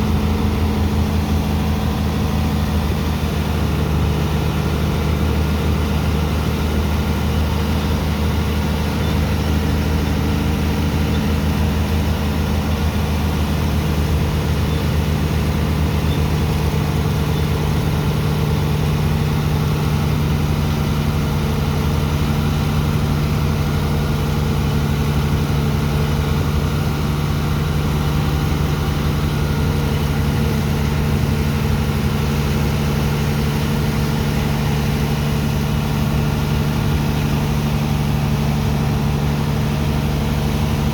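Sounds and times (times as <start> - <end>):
dredger engine humming: 0.0 - 40.9.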